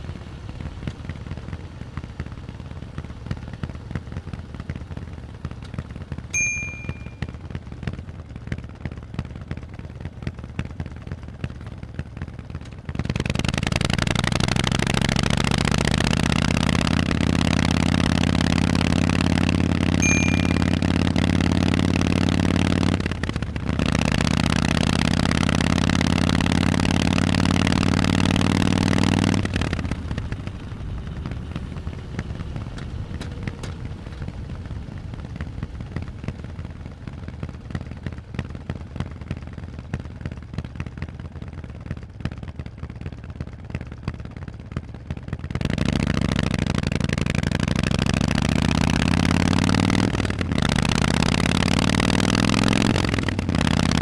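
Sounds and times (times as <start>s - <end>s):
rough rumble with quick crackles: 0.0s - 6.4s, 7.0s - 54.0s
loud motorcycle engine under throttle: 0.0s - 54.0s.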